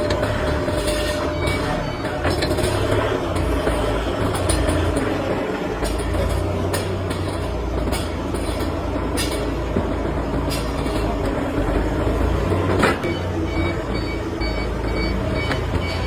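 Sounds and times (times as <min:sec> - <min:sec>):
heavy machinery humming: 0:00.0 - 0:16.0.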